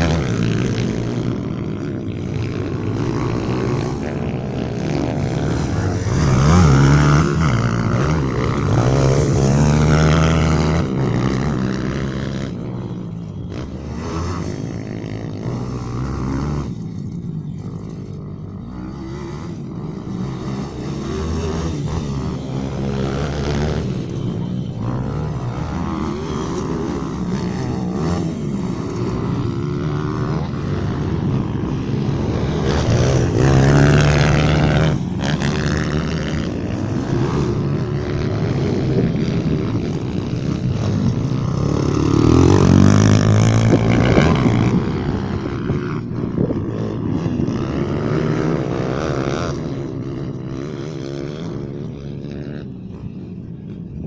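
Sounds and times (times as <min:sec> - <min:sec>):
pit bike engines revving: 0:00.0 - 0:54.0.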